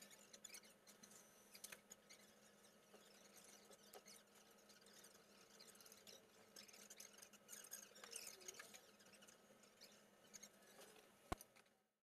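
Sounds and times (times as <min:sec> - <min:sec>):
faint clicks and ticks: 0:00.0 - 0:11.8.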